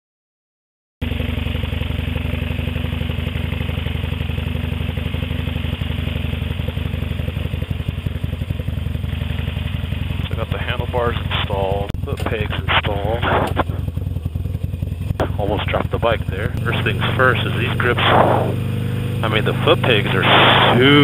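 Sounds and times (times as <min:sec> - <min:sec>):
motorcycle engine running: 0:01.0 - 0:21.0.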